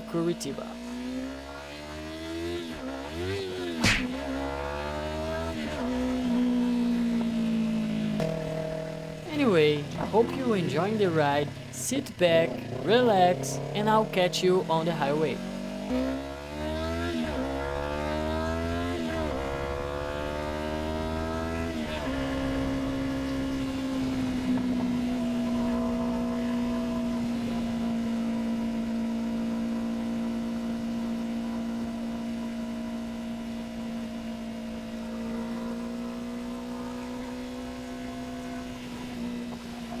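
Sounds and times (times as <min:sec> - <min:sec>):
motorcycle engine accelerating: 0:00.0 - 0:40.0.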